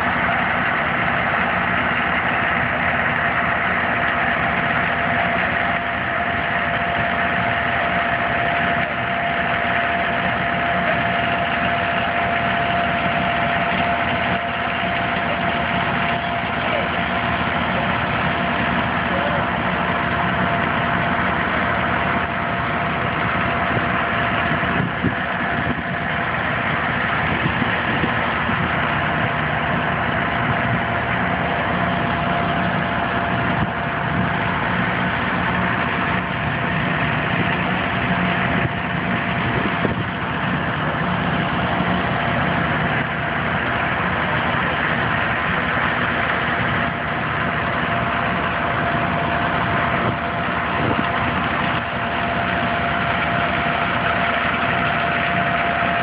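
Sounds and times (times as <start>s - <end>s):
fire truck engines idling: 0.0s - 56.0s.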